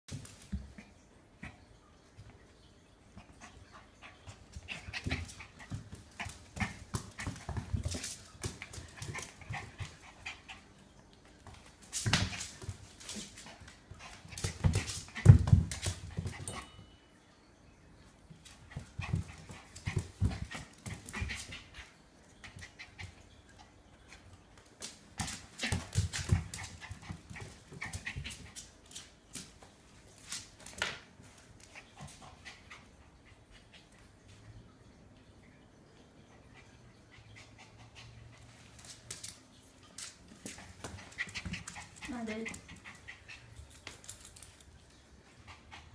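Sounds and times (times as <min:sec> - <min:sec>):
dog paws tapping and scrabbling: 0:00.0 - 0:16.8, 0:18.3 - 0:34.4, 0:37.2 - 0:45.9.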